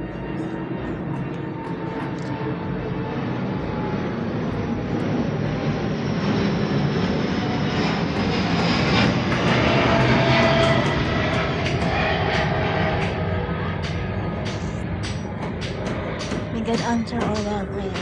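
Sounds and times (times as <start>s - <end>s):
engine passing: 0.8s - 16.6s.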